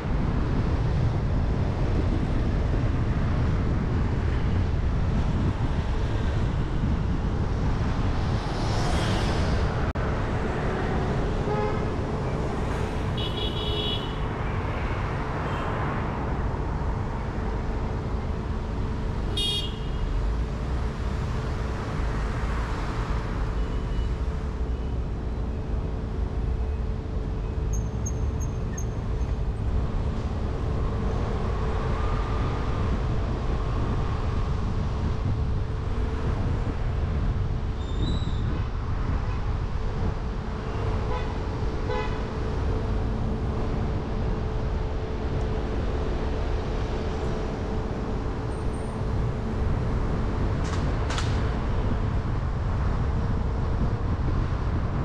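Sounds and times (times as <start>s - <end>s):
traffic engine rumble: 0.0s - 55.0s.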